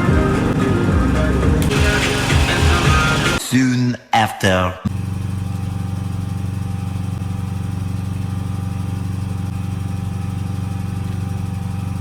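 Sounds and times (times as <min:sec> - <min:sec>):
engine idling: 0:00.0 - 0:03.4, 0:04.9 - 0:12.0.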